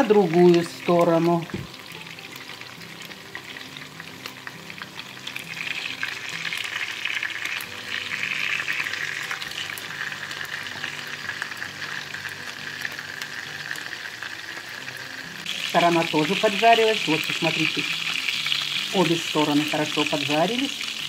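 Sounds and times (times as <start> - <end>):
patties sizzling in oil: 0.0 - 21.0.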